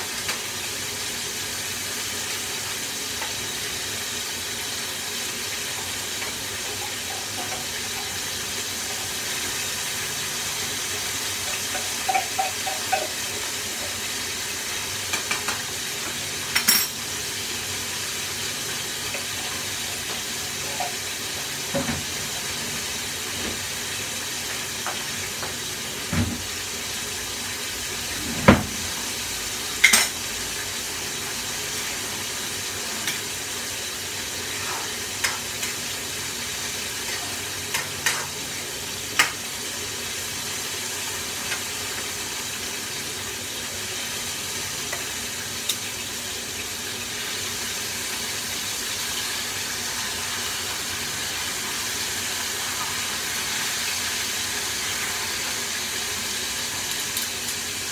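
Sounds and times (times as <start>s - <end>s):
chicken sizzling in oil: 0.0s - 57.9s.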